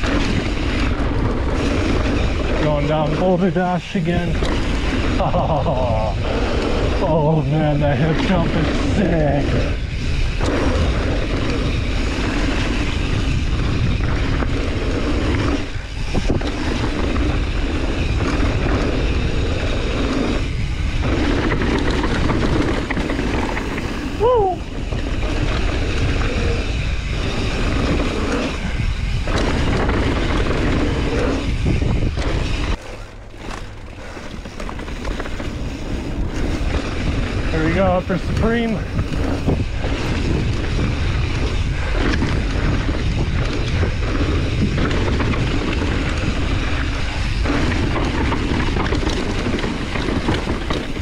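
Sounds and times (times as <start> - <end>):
bike rattling over ground: 0.0 - 51.0
wind buffeting microphone: 0.0 - 51.0.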